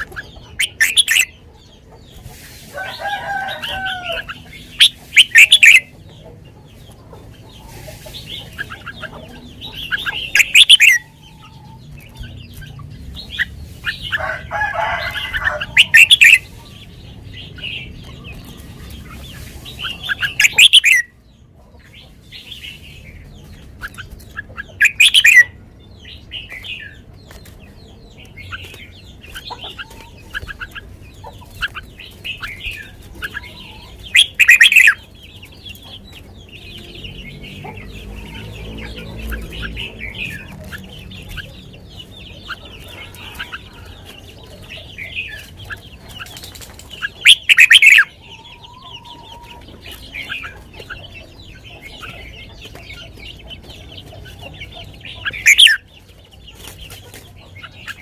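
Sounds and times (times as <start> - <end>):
bird singing: 0.0 - 58.0.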